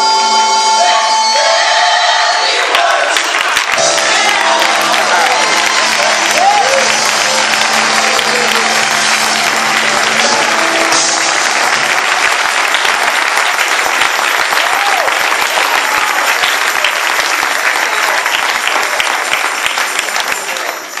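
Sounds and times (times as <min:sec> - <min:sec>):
crowd clapping: 0:02.4 - 0:21.0.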